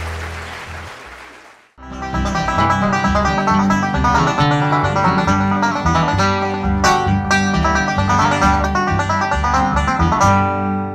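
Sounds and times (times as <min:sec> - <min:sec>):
bluegrass string band playing: 0:01.8 - 0:10.9.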